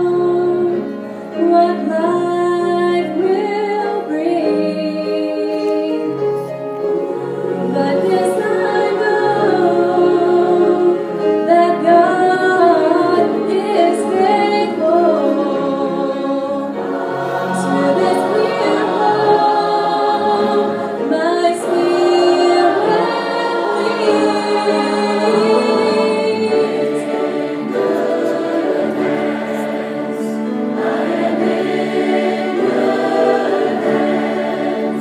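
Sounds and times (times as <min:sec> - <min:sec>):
choir singing long held notes: 0:00.0 - 0:35.0
instrumental accompaniment: 0:00.0 - 0:35.0.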